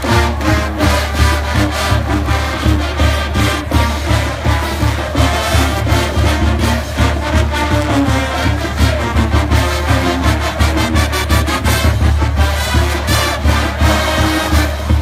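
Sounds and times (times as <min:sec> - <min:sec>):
drums steady beat: 0:00.0 - 0:15.0
marching band brass: 0:00.0 - 0:15.0.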